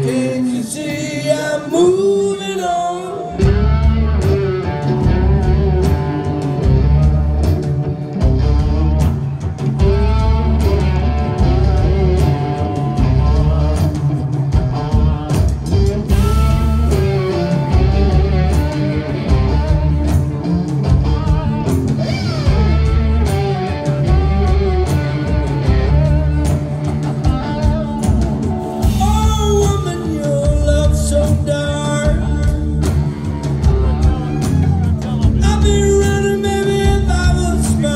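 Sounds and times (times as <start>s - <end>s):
blues-rock band playing: 0.0s - 37.9s.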